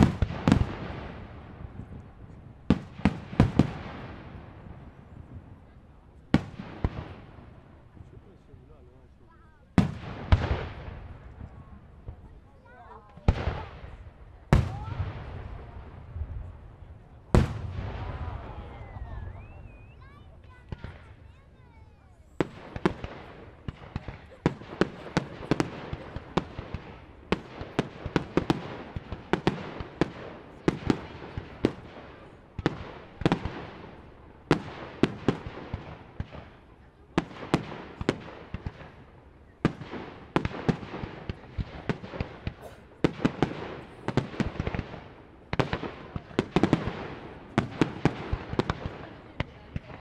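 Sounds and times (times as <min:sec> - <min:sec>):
fireworks bursting with sharp bangs: 0:00.0 - 0:08.4, 0:09.3 - 0:50.0.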